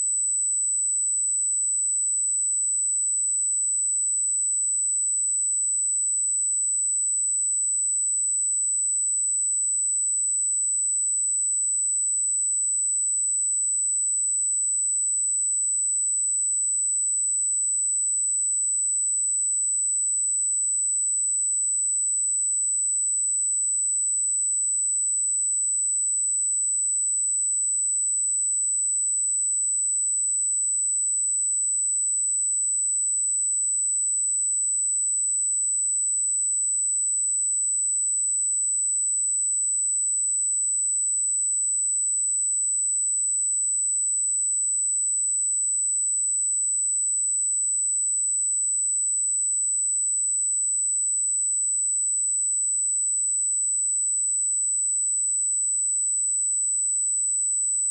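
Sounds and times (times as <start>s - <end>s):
high-pitched sine test tone: 0.0s - 57.9s.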